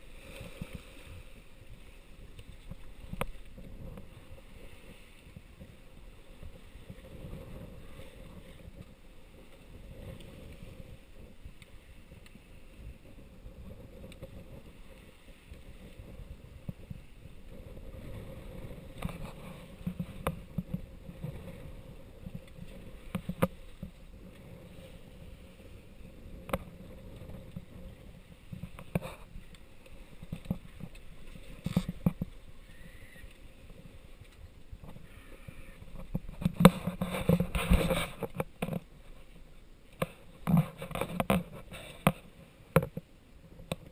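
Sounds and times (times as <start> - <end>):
water rushing along a hull: 0.0 - 43.9
wind on the microphone: 0.0 - 43.9.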